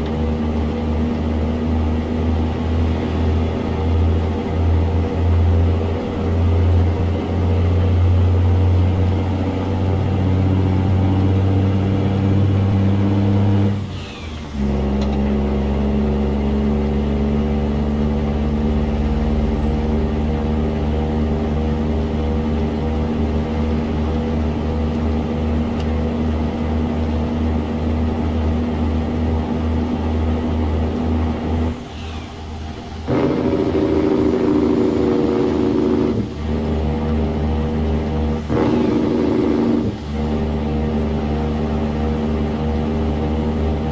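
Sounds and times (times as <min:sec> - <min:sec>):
truck engine rumbling: 0:00.0 - 0:43.9.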